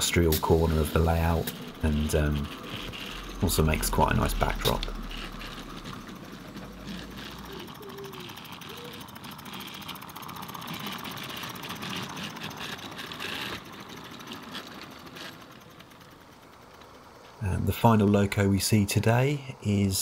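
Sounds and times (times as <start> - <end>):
model steam locomotive chuffing: 0.0 - 20.0.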